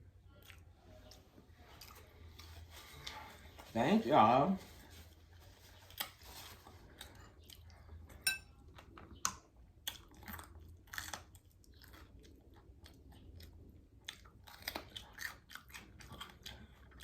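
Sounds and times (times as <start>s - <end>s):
person chewing food: 0.0s - 3.8s, 4.9s - 17.0s.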